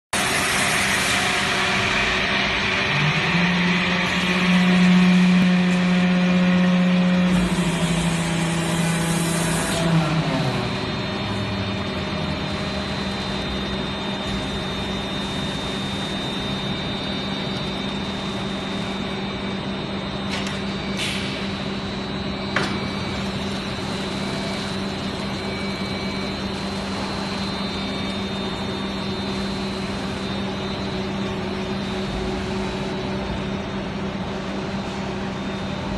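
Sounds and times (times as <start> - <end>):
machinery humming: 0.1 - 35.9.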